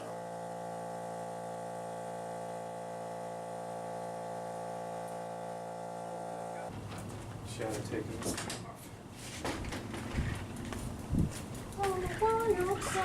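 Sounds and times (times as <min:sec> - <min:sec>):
steady electric buzz: 0:00.0 - 0:08.1, 0:09.6 - 0:13.0.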